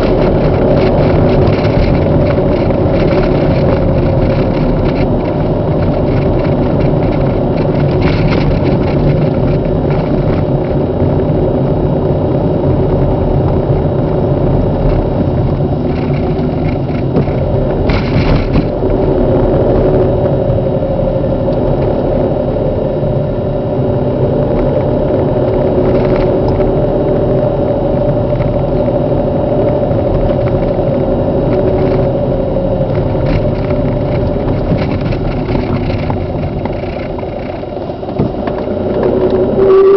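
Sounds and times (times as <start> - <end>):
car engine hum: 0.0 - 39.9
road noise: 0.0 - 39.9.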